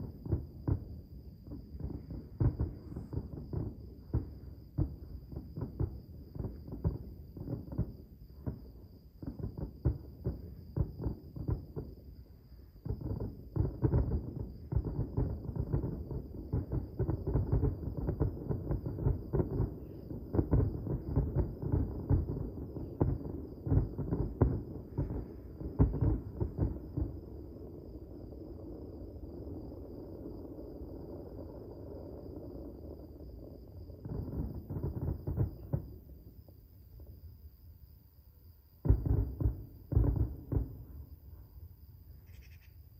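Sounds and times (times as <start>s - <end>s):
distant fireworks booming: 0.0s - 42.9s.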